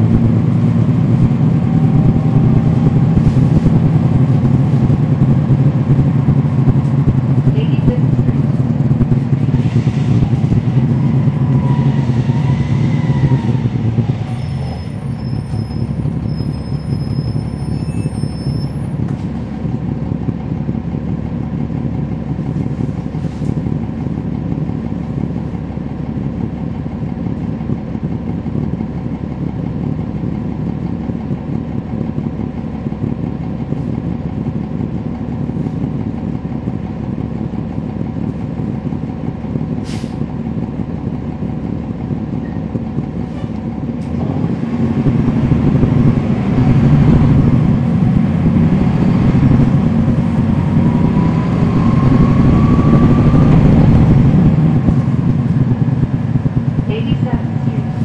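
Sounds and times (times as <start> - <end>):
bus diesel engine rumbling: 0.0 - 58.0
road noise: 0.0 - 58.0.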